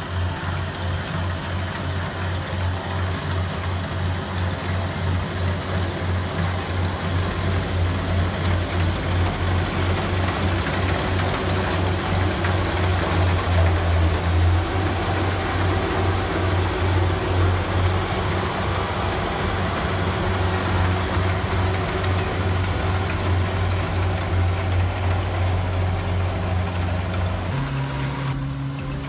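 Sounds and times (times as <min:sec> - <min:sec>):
combine harvester engine hum: 0:00.0 - 0:29.0
harvester cutting and threshing: 0:00.0 - 0:29.0.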